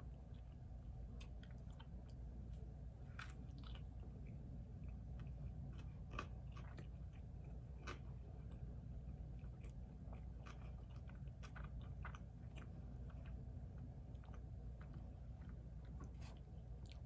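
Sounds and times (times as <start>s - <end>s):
chewing food: 0.0s - 17.0s
low hum: 0.0s - 17.0s.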